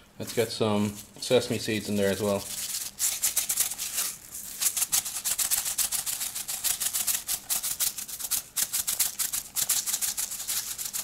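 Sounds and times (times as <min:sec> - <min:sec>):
seeds rattling in a shaker jar: 0:00.3 - 0:11.0.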